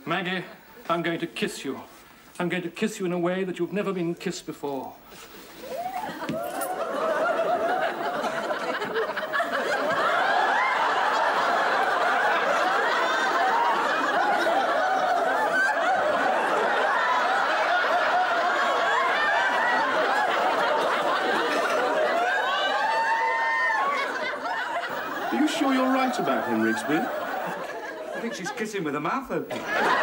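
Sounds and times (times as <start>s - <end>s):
audience laughter: 5.8s - 30.0s.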